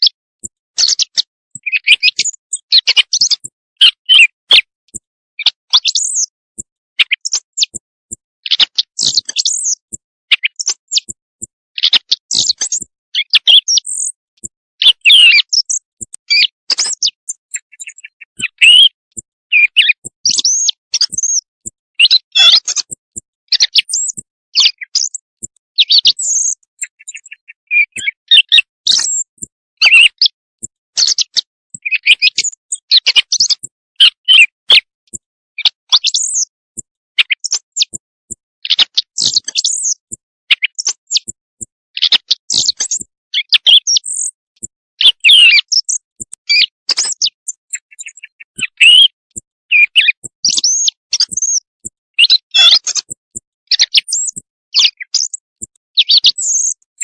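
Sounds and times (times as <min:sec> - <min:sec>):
recorded bird chirps: 0:00.0 - 0:57.0.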